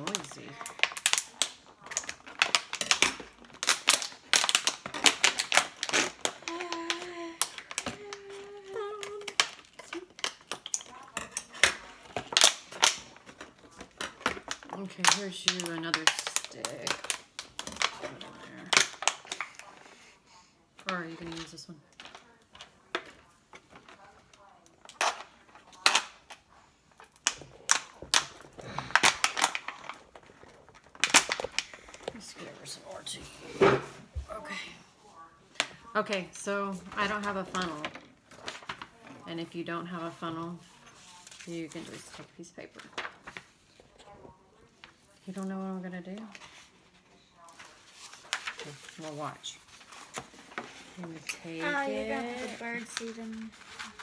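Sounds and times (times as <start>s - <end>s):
plastic bottles crackling: 0.0s - 34.7s, 35.6s - 54.0s.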